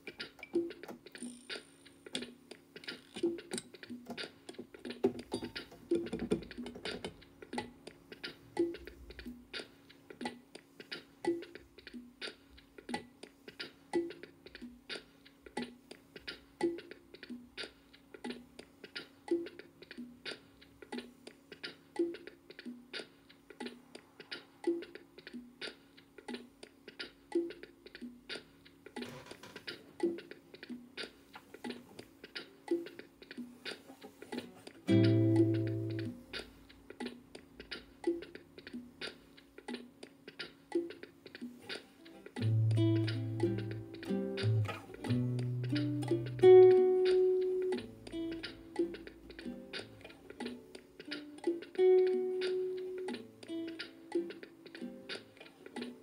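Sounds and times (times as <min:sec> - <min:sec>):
percussion loop of clicks and taps: 0:00.0 - 0:56.0.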